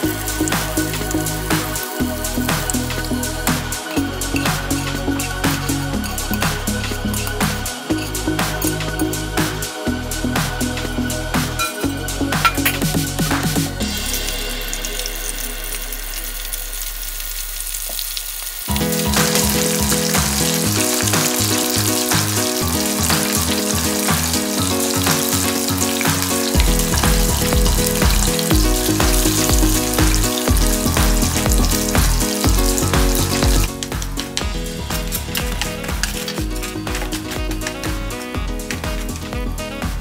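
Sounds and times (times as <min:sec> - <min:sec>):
shrimp sizzling in hot oil: 0:00.0 - 0:09.6, 0:13.8 - 0:39.3
background music with a beat: 0:00.0 - 0:16.2, 0:18.7 - 0:40.0.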